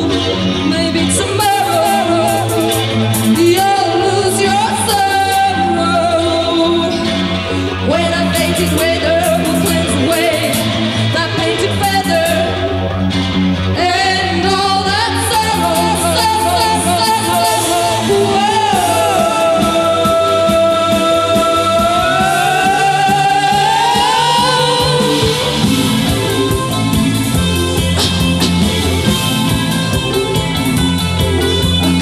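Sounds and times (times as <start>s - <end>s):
woman singing: 0.0s - 12.8s, 13.8s - 26.7s
electric rock band with guitar: 0.0s - 32.0s.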